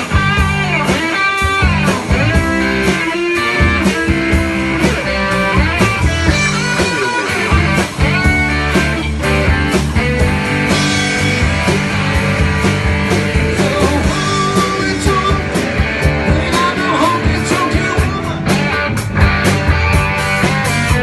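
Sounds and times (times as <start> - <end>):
guitar-led rock music: 0.0 - 21.0.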